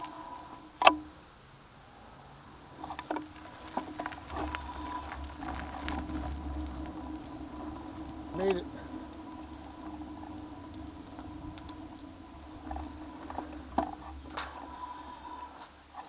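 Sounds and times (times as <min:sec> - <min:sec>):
tyre rumble: 0:02.4 - 0:16.0
bicycle clicks and rattles: 0:02.7 - 0:16.0.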